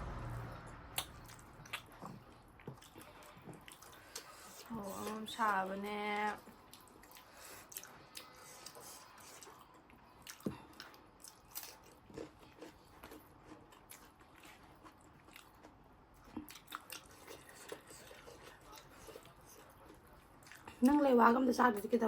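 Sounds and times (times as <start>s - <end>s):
person chewing with crunches: 1.0s - 5.5s, 6.2s - 21.0s.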